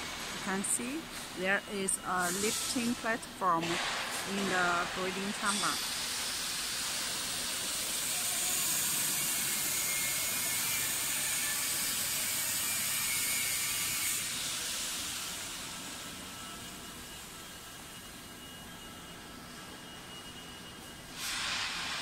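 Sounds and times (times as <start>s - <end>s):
factory machinery hissing: 0.0s - 22.0s.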